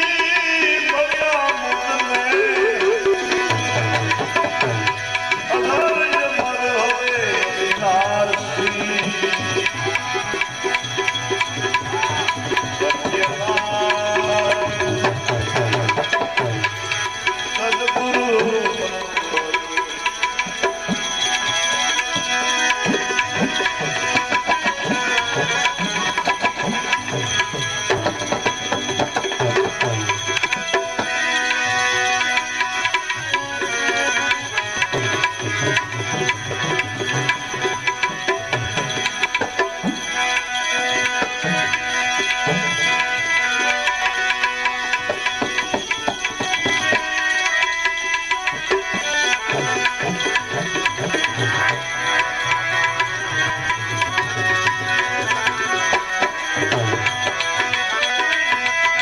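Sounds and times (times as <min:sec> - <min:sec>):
tabla playing a rhythm: 0:00.0 - 0:59.0.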